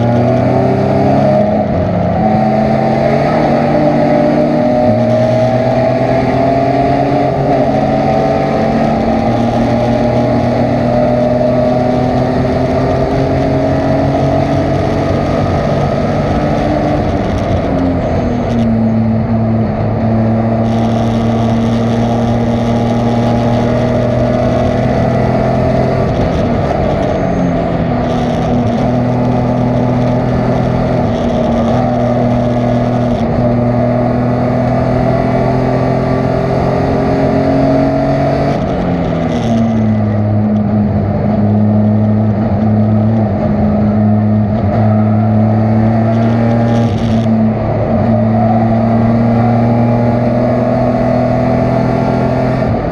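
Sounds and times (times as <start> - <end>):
race car engine at high revs: 0.0 - 52.9.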